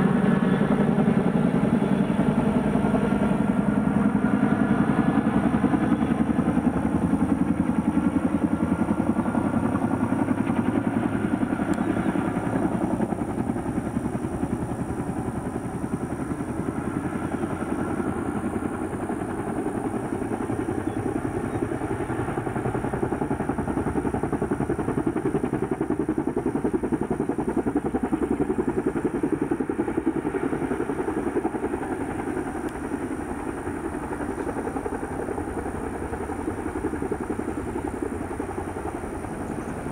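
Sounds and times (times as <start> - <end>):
helicopter rotor chop: 0.0 - 39.9
turbine engine whine: 0.0 - 39.9.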